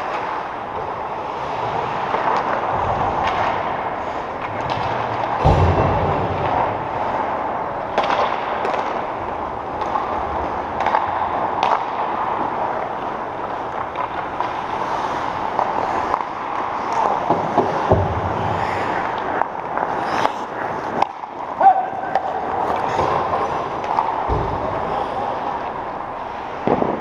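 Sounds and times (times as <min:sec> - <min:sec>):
arena background noise: 0:00.0 - 0:27.0.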